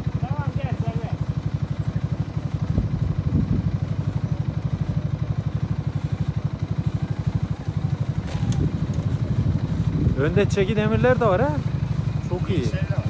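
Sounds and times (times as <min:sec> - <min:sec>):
quad bike engine idling: 0:00.0 - 0:13.0.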